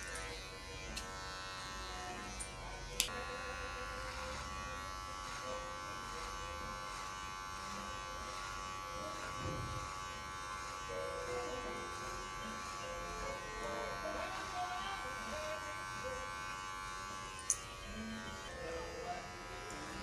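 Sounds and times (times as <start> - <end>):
electric hair clippers buzzing: 0.0 - 20.0.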